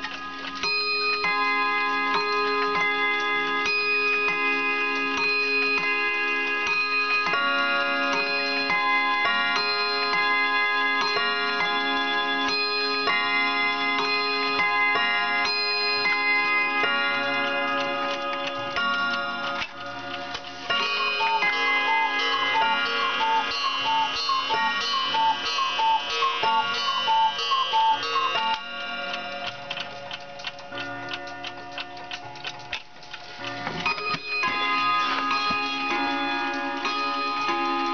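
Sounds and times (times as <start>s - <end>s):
clock chime notes: 0.0s - 37.9s
clock ticking: 0.0s - 37.9s.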